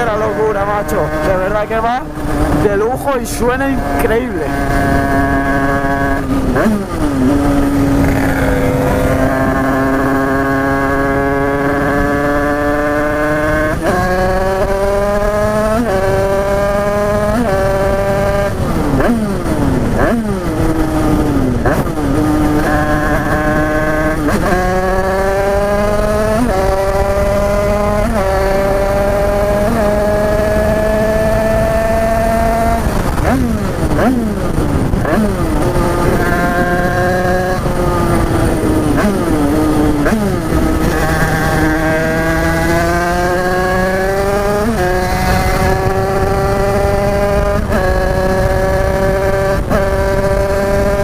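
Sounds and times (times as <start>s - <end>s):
dirt bike engine accelerating: 0.0s - 51.0s.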